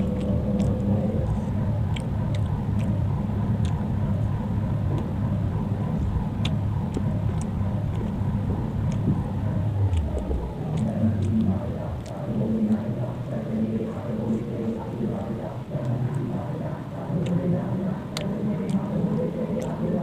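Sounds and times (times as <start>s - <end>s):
chewing with mouth clicks: 0.0s - 20.0s
steady low rumble: 0.0s - 20.0s.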